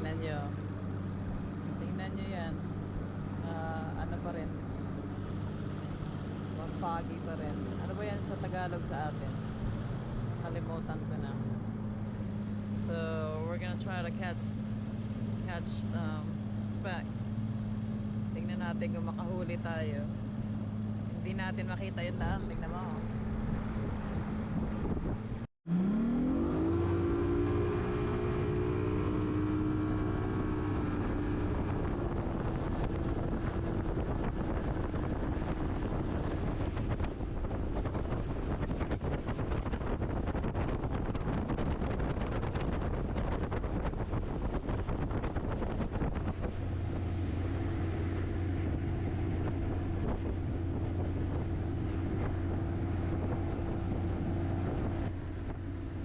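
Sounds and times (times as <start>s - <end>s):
boat motor running: 0.0s - 56.0s
wind noise on microphone: 0.0s - 56.0s.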